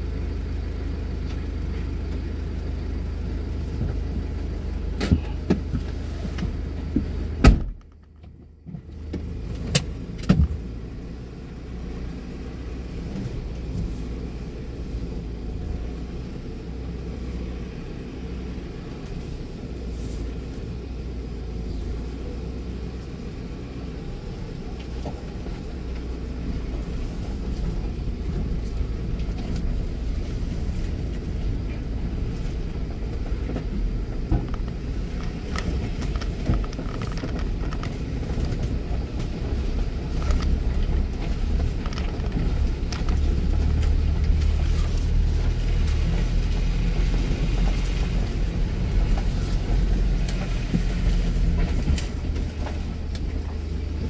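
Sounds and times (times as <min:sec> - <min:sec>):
car rumble: 0:00.0 - 0:54.0.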